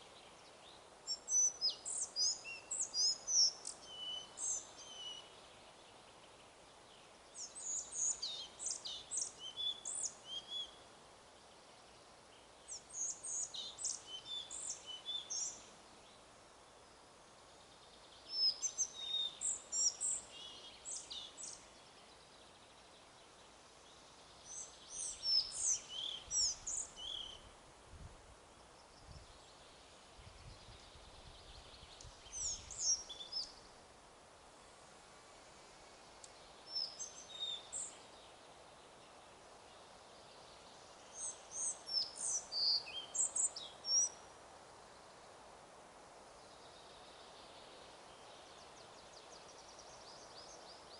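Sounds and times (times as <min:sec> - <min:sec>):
songbird singing: 0:00.0 - 0:50.9
wind in forest: 0:00.0 - 0:50.9.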